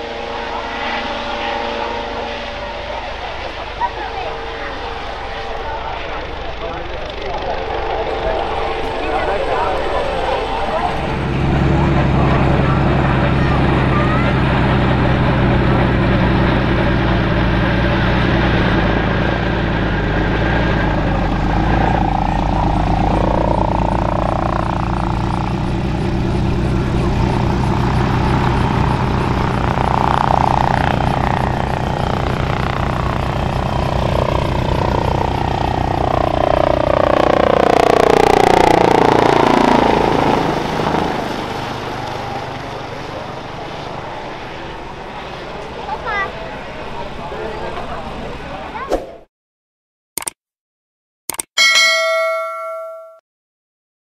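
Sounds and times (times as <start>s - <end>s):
helicopter flying past: 0.0s - 48.8s.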